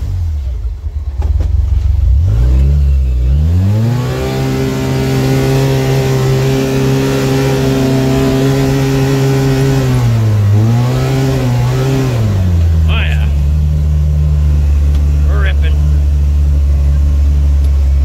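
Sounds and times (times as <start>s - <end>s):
vehicle engine from inside cab: 0.0s - 18.0s.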